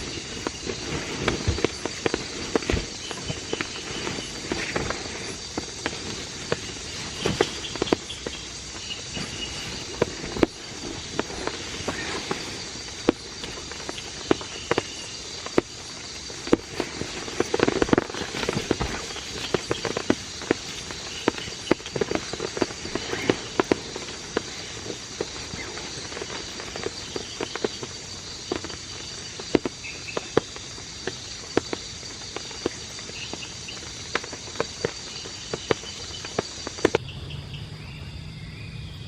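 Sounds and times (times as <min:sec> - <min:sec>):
raindrops tapping on surface: 0:00.0 - 0:37.0
steady rain: 0:00.0 - 0:39.0.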